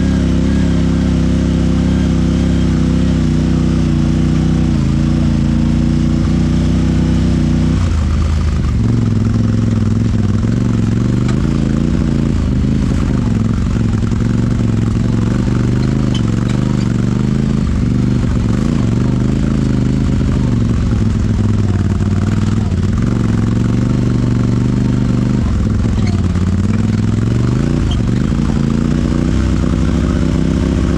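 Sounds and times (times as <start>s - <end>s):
engine pitch wavering: 0.0s - 30.9s.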